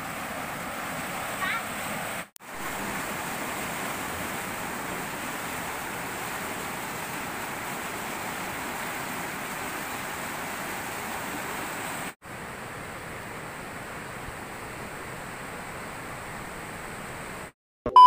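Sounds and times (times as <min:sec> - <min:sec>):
river water rushing through weir: 0:00.0 - 0:17.5.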